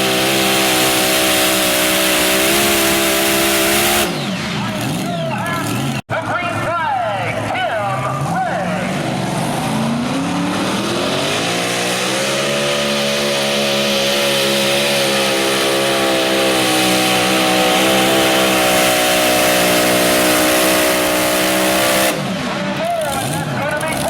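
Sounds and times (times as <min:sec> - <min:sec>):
tractor engine revving: 0:00.0 - 0:24.0.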